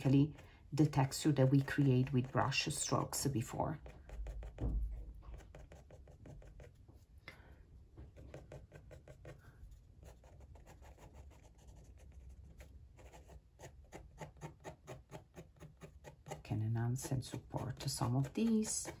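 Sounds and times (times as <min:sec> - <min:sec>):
pen scratching on paper: 0:00.0 - 0:06.8, 0:08.1 - 0:19.0.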